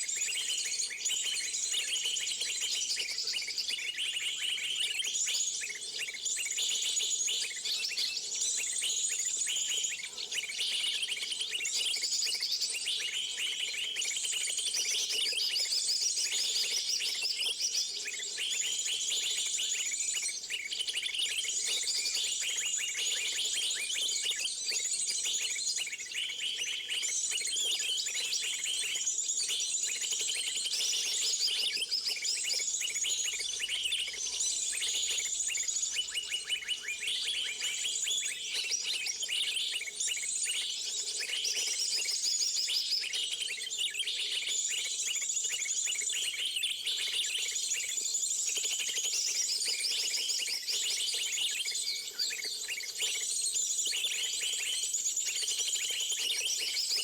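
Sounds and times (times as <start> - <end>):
small birds chirping and trilling: 0.1 - 57.0.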